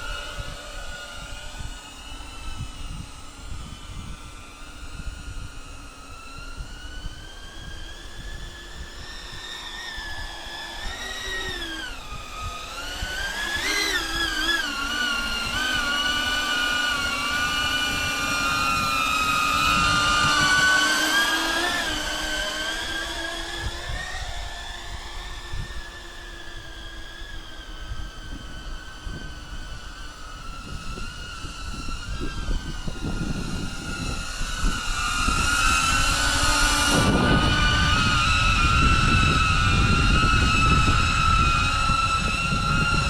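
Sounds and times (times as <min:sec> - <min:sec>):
drone propellers whining: 0:00.0 - 0:43.0
wind buffeting microphone: 0:00.0 - 0:43.0.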